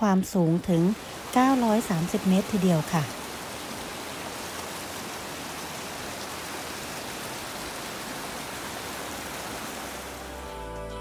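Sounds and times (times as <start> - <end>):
running water rushing: 0.0 - 10.8.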